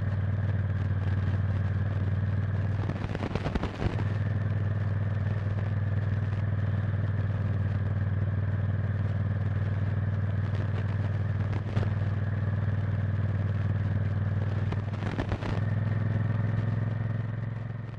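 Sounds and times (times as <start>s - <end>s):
motorcycle engine running steadily: 0.0s - 17.9s.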